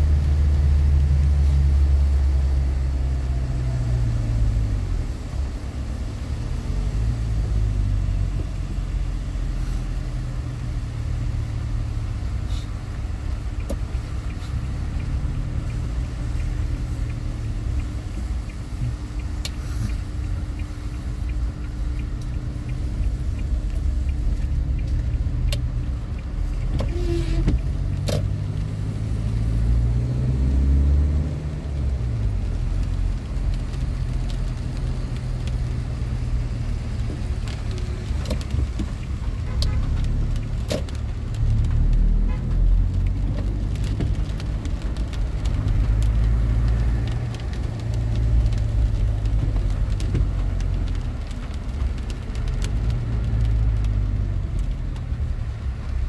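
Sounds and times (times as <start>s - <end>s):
car engine from inside cabin: 0.0s - 56.0s
road rumble: 0.0s - 56.0s.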